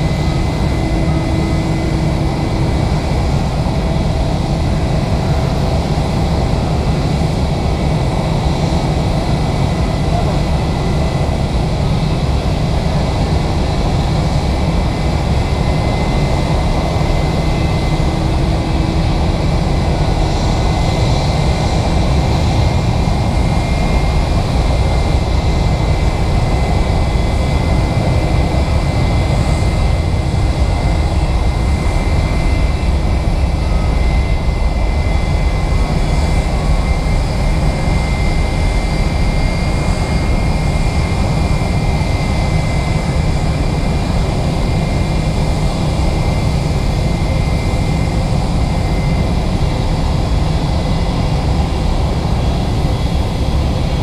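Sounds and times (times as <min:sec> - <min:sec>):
jet engines running: 0:00.0 - 0:54.0.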